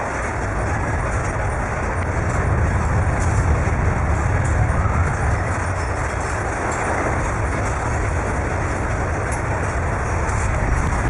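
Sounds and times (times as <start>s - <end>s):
dense noisy rattle: 0.0s - 11.0s
low rumble of building shaking: 0.0s - 11.0s.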